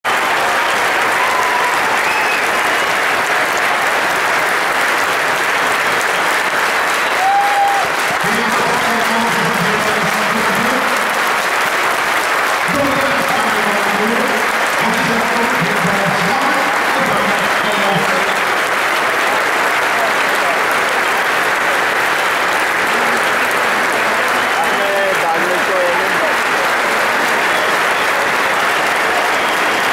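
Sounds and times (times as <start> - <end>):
stadium crowd applauding: 0.0 - 29.9
crowd voices: 0.1 - 29.9.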